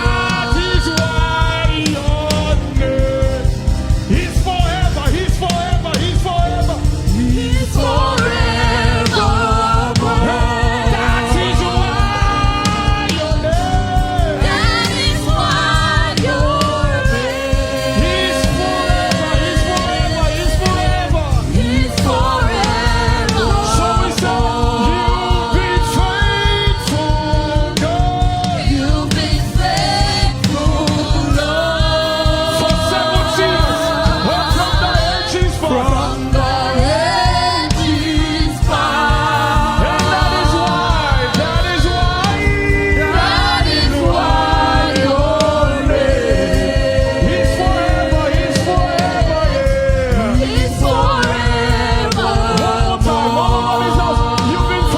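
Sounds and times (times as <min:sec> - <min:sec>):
gospel choir with instruments: 0:00.0 - 0:54.9.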